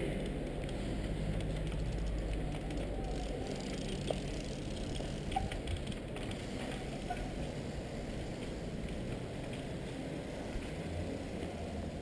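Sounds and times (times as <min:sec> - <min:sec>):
bicycle faint clicks: 0:00.0 - 0:11.7.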